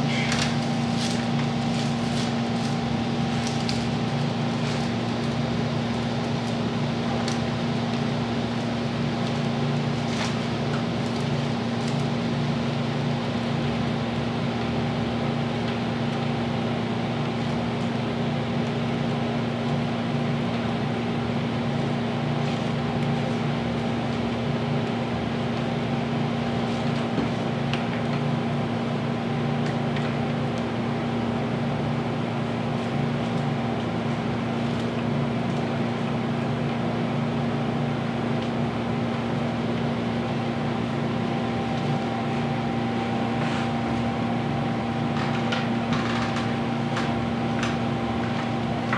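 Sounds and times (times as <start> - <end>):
steady machine hum: 0.0 - 48.9.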